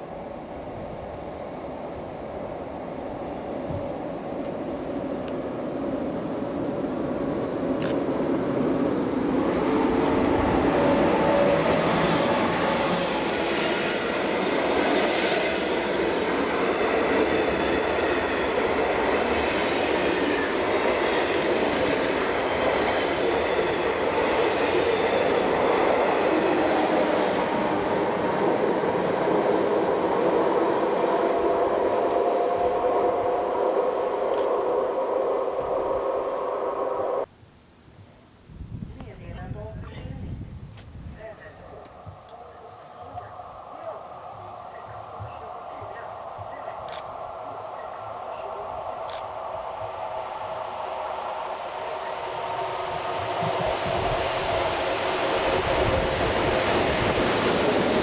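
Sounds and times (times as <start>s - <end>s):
passenger train passing: 0.0s - 37.3s, 41.3s - 58.0s.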